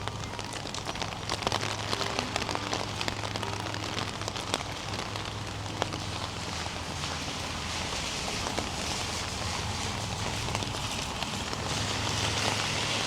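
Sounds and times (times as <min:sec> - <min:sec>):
rain drops and drips: 0:00.0 - 0:13.0.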